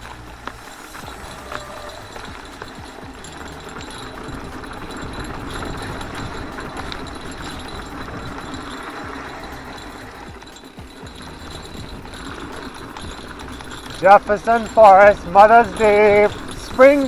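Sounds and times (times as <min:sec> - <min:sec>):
bike rattling and clicking: 0:00.0 - 0:17.0.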